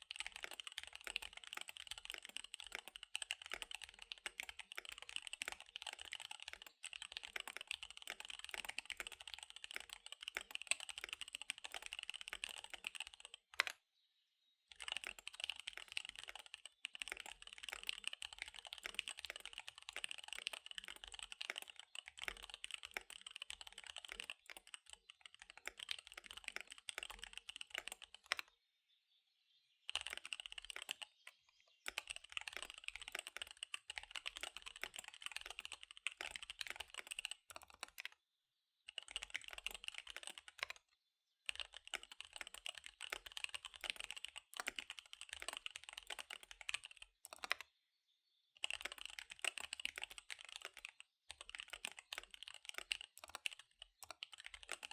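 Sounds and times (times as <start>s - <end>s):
mechanical keyboard typing: 0.0s - 13.8s, 14.7s - 28.5s, 29.9s - 38.2s, 38.9s - 40.8s, 41.5s - 47.6s, 48.6s - 54.9s.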